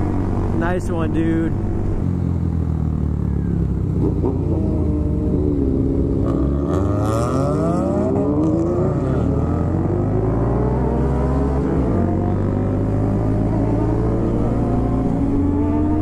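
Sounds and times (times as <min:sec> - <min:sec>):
sport bike engines revving: 0:00.0 - 0:16.0.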